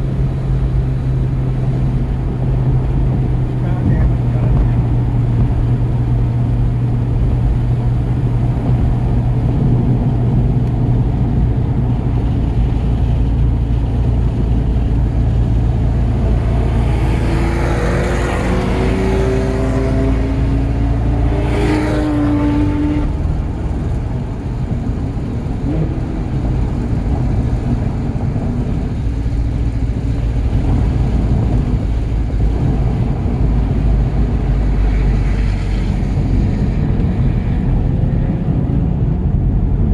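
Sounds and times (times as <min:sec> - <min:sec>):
car engine running hard: 0:00.0 - 0:39.9
road and wind noise: 0:00.0 - 0:39.9
rush of noise: 0:00.0 - 0:39.9.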